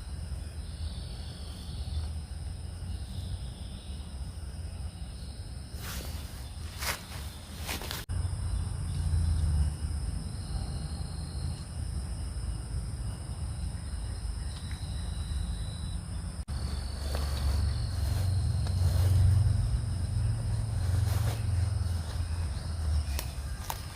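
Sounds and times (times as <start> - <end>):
crickets trilling: 0.0 - 23.9
low steady rumble: 0.0 - 23.9.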